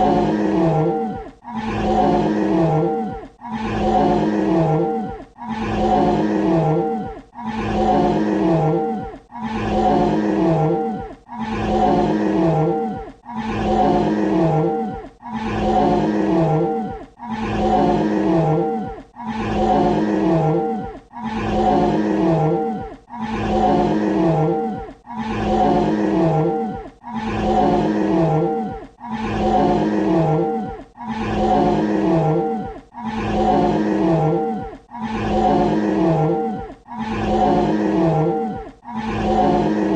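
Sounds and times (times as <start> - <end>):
dinosaur roar: 0.0 - 39.9.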